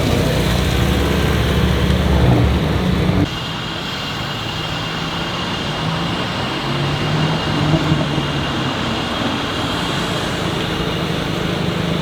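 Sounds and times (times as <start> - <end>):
car engine and exhaust roaring: 0.0 - 12.0.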